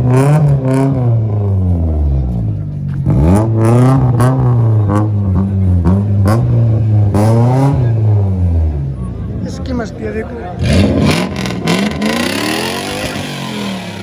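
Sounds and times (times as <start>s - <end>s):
car engine revving: 0.0s - 14.0s
exhaust cracks: 0.0s - 14.0s.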